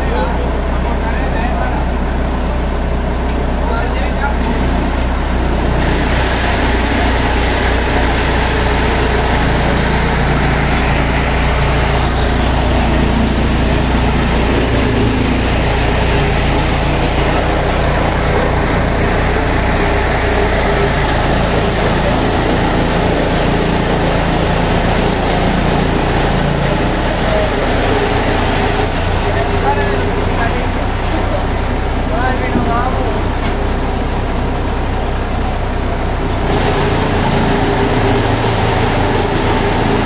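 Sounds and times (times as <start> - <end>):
tractor engine hum: 0.0 - 40.0.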